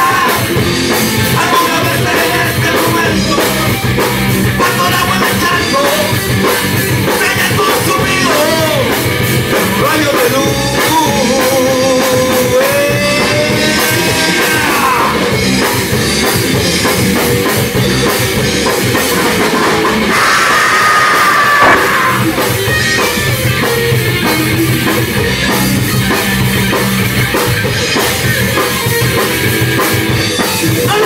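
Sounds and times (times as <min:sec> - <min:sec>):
bass: 0:00.0 - 0:31.0
bending lead guitar notes: 0:00.0 - 0:31.0
drum kit: 0:00.0 - 0:31.0.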